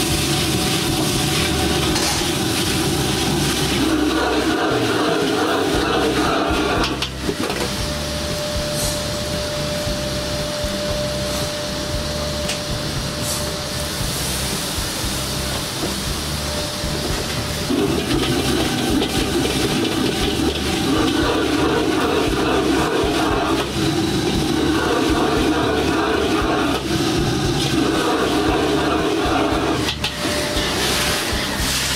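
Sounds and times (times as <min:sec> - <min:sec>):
noodles sizzling in wok: 0:00.0 - 0:31.9
wok burner roaring: 0:00.0 - 0:31.9.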